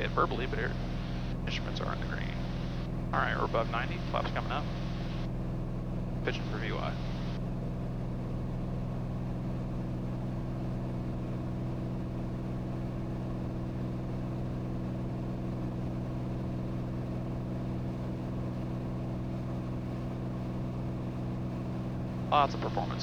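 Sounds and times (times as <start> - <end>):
aircraft engine and propeller droning: 0.0 - 23.0.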